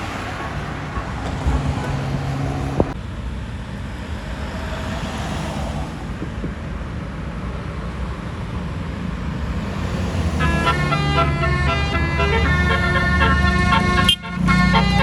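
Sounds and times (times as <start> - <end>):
bus engine rumble: 0.0 - 15.0
road traffic: 0.0 - 15.0.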